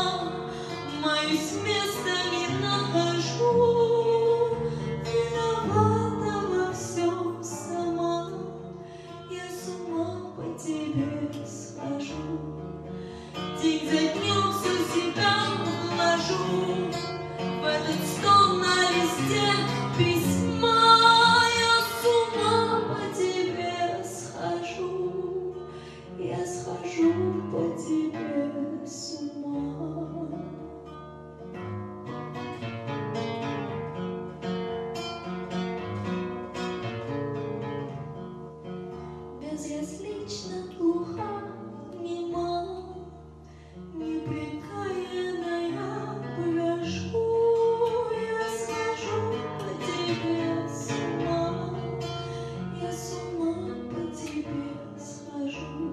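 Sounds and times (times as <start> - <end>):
woman singing into microphone: 0.0 - 12.4, 13.4 - 30.6, 39.4 - 43.2, 43.9 - 55.9
acoustic guitar: 0.0 - 55.9.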